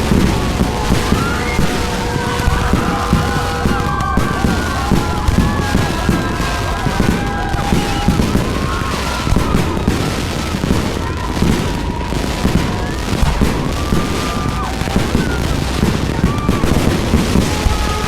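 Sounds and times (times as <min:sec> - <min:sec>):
fireworks banging: 0:00.0 - 0:18.0
fireworks crackling: 0:00.0 - 0:18.0
fireworks whistling: 0:00.0 - 0:18.0.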